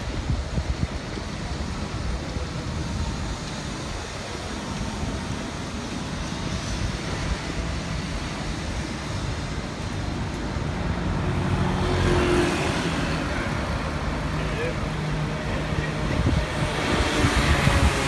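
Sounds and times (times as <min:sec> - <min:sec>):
city road traffic: 0:00.0 - 0:18.0
vehicle engine: 0:00.0 - 0:18.0.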